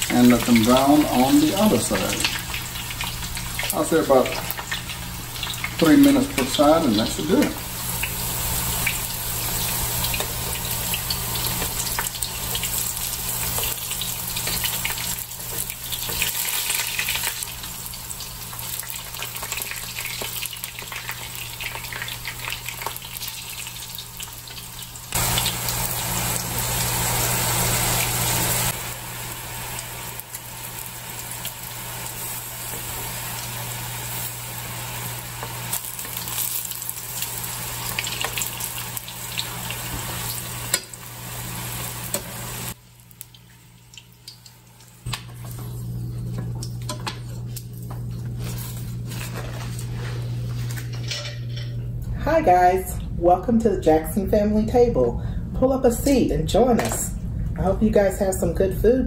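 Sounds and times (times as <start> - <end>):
vegetables sizzling in oil: 0.0 - 50.8.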